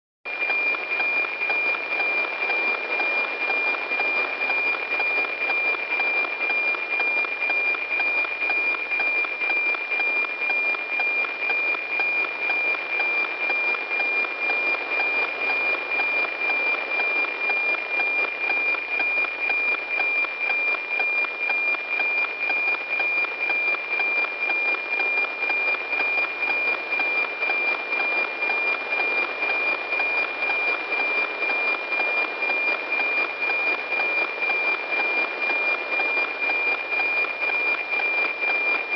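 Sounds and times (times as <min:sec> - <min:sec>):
tick-tock beat: 0:00.3 - 0:38.9.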